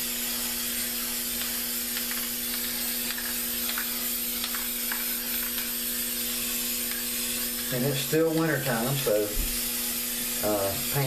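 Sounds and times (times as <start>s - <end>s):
spray paint can hissing: 0.0s - 11.0s.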